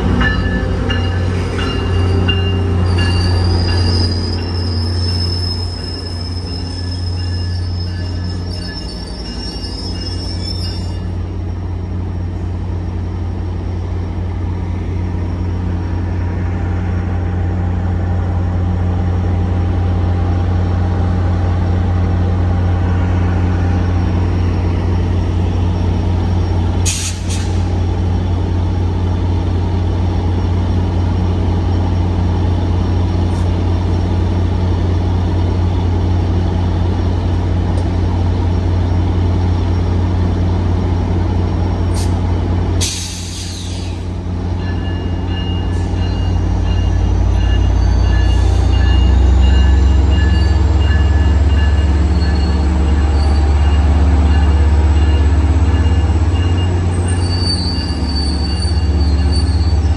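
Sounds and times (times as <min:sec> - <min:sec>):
train humming: 0:00.0 - 0:59.9.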